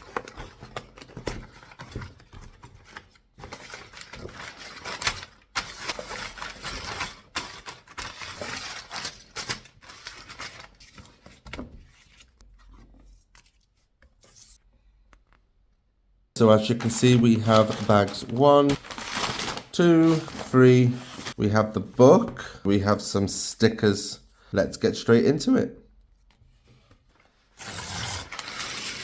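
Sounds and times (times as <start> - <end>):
cardboard and plastic rustling: 0.0 - 14.6, 16.4 - 22.4, 26.4 - 29.0.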